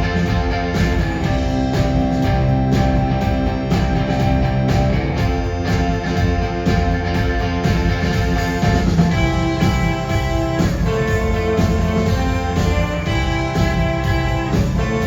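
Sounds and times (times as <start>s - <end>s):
electric guitars: 0.0s - 15.0s
live band playing instrumental: 0.0s - 15.0s.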